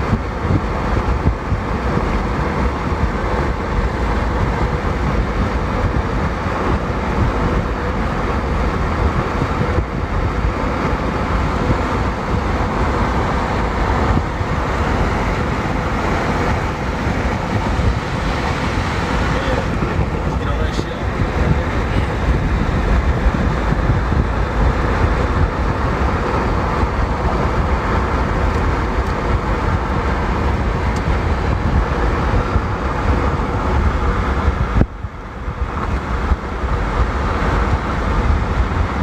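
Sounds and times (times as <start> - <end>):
loud rumbling noise: 0.0 - 39.0.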